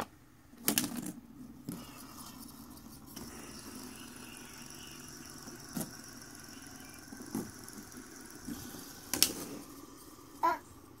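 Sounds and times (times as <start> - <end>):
fidget spinners whirring: 0.7 - 11.0.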